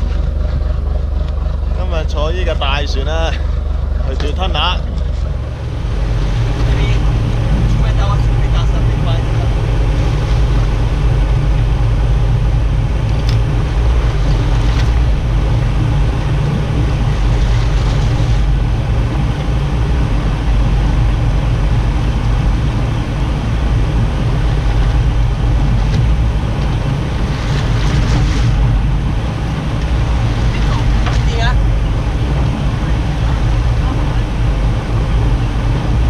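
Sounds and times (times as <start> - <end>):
boat engine droning: 0.0 - 36.0
water wash: 0.0 - 36.0.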